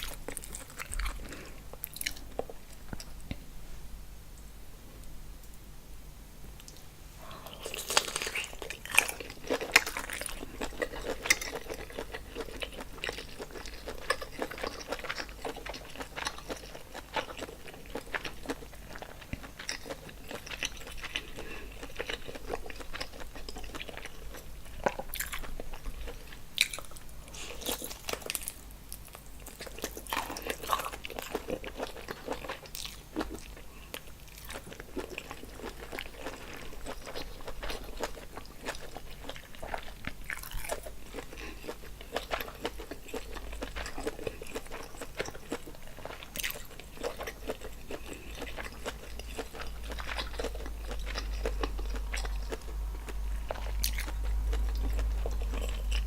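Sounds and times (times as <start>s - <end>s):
person chewing food: 0.0s - 3.4s, 6.6s - 56.0s.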